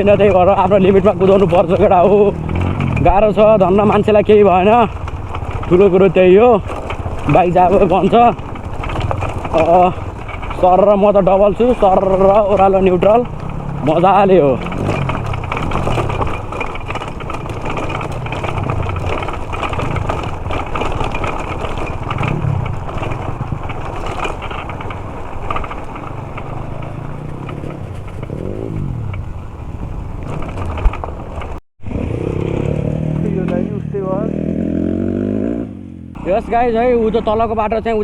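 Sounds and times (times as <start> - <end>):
dirt bike motor: 0.0 - 38.0
tyres rumbling: 0.0 - 38.0
wind: 0.0 - 38.0.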